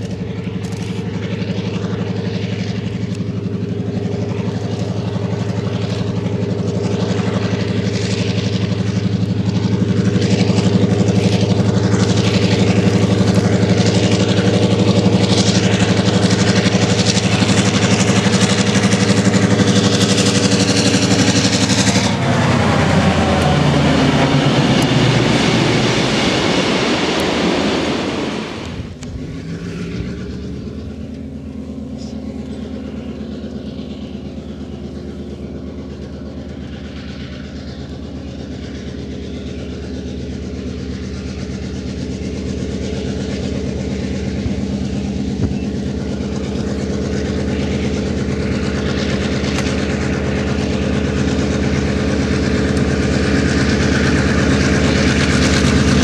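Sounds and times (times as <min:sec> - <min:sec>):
diesel locomotive engine running: 0:00.0 - 0:56.0
train coaches rolling past: 0:10.0 - 0:56.0.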